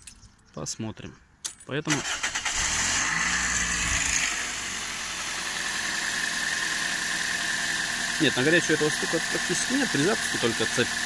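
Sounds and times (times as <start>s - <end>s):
car engine starting and idling: 1.9s - 11.0s.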